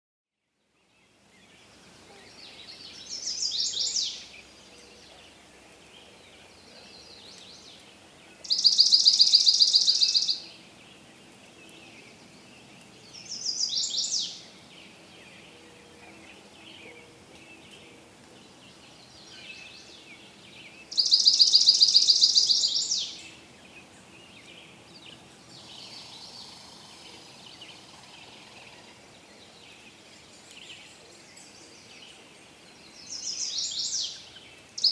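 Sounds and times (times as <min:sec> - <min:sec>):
steady low hiss: 0:00.6 - 0:34.9
bird calls and trills: 0:00.8 - 0:34.9.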